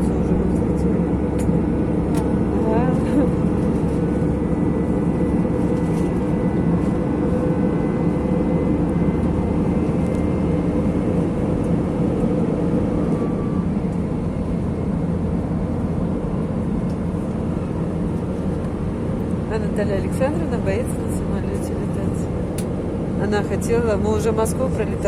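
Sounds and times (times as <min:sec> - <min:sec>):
engine and airflow drone: 0:00.0 - 0:25.0.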